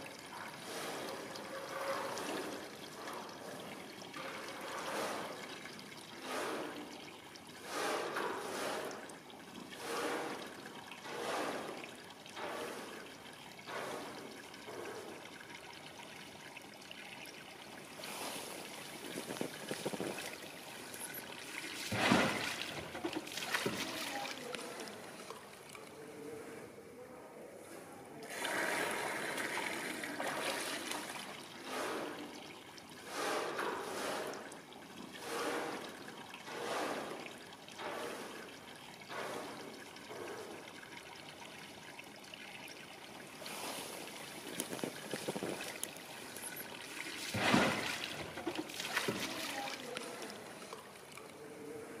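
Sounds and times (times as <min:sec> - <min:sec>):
water splashing and trickling: 0:00.0 - 0:52.0.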